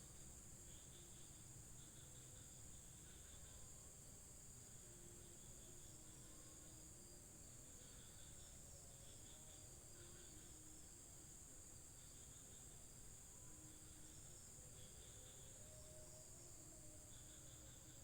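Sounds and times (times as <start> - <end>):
insect chorus trilling: 0.0 - 18.0.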